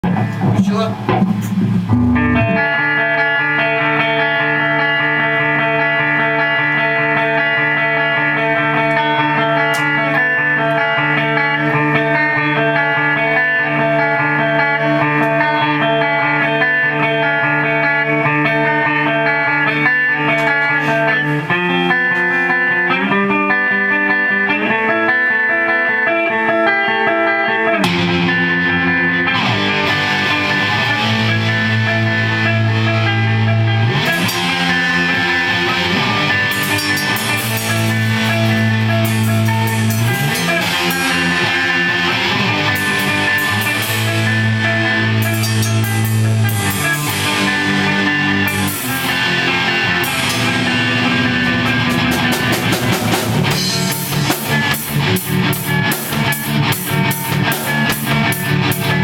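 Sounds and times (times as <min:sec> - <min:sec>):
electric guitar chords: 0:00.0 - 0:59.0
punk band playing: 0:00.0 - 0:59.0.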